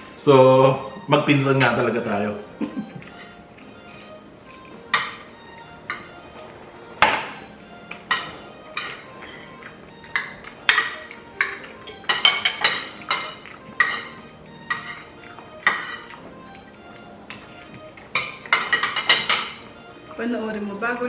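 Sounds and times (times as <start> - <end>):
cutlery clinking against plates: 2.6 - 20.2.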